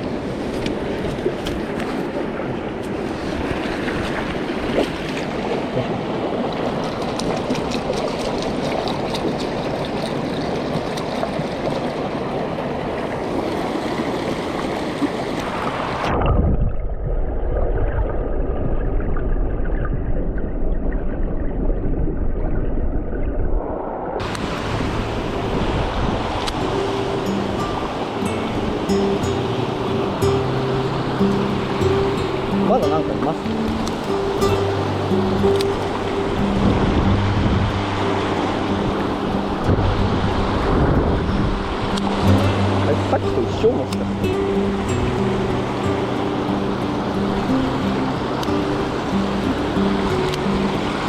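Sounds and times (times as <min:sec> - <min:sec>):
mountain river rushing: 0:00.0 - 0:16.3, 0:23.6 - 0:51.0.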